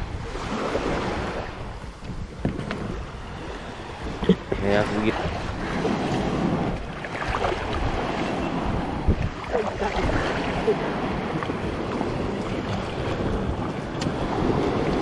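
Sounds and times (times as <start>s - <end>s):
water sloshing around kayak: 0.0s - 15.0s
wind buffeting microphone: 0.0s - 15.0s.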